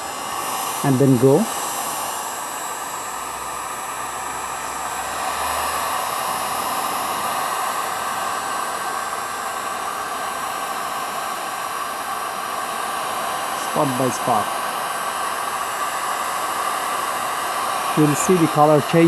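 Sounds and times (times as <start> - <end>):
heat gun blowing hot air: 0.0 - 19.0.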